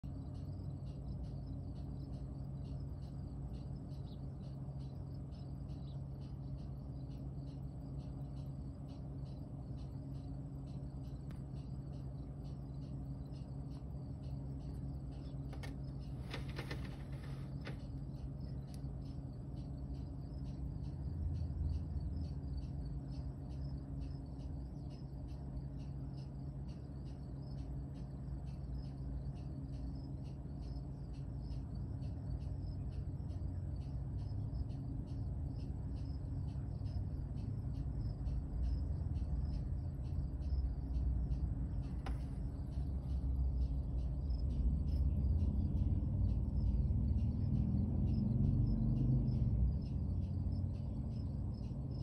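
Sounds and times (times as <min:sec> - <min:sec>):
cricket chirping: 0:00.0 - 0:52.0
low hum: 0:00.0 - 0:52.0.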